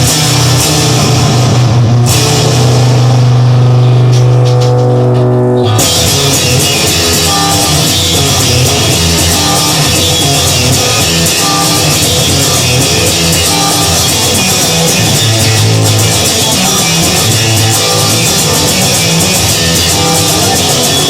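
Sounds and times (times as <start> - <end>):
blues-rock band playing: 0.0 - 21.0.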